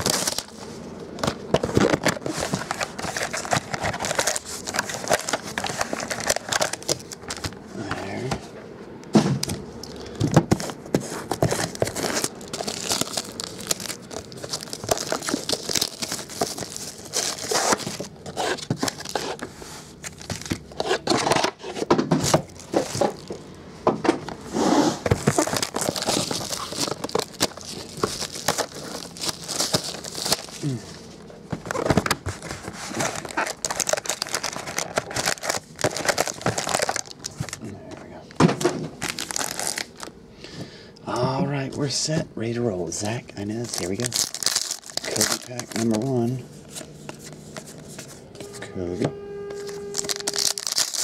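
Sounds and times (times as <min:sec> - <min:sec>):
plastic and foil crinkling: 0:00.0 - 0:07.6, 0:09.8 - 0:23.4, 0:25.0 - 0:38.1, 0:38.9 - 0:40.1, 0:43.0 - 0:48.6, 0:49.5 - 0:51.0.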